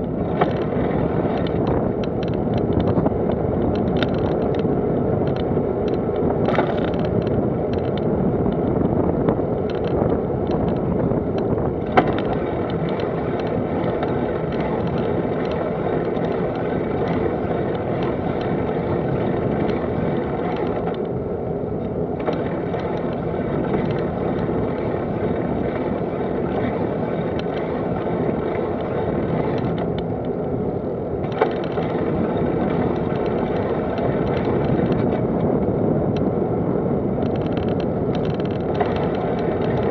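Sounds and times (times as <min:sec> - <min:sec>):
small rattles and clicks: 0:00.0 - 0:30.6, 0:31.2 - 0:36.3, 0:37.1 - 0:39.9
tyre and road noise: 0:00.0 - 0:39.9.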